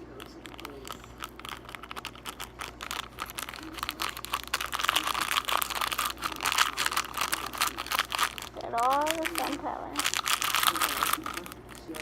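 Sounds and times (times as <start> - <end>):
packet crinkling and rustling: 0.0 - 12.0.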